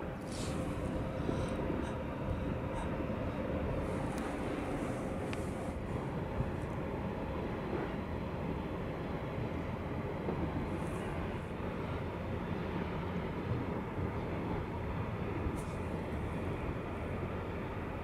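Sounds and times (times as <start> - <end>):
ship engines rumbling: 0.0 - 18.0.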